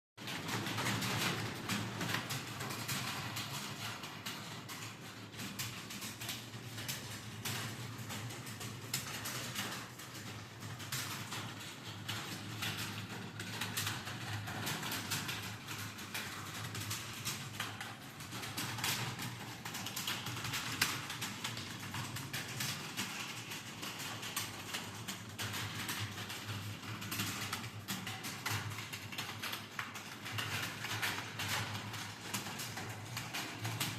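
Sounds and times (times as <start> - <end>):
fast keyboard typing: 0.2 - 33.9.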